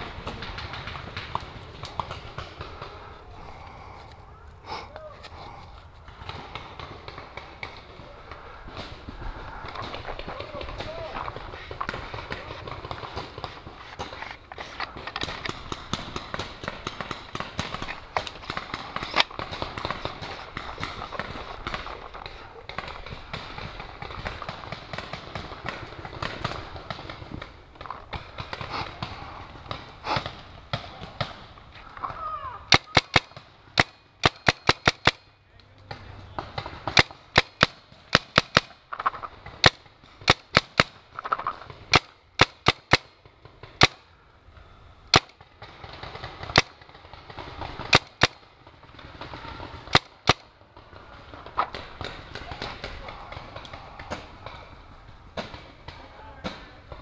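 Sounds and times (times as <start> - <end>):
paintball marker firing: 8.7 - 31.5, 32.7 - 44.0, 45.1 - 57.0.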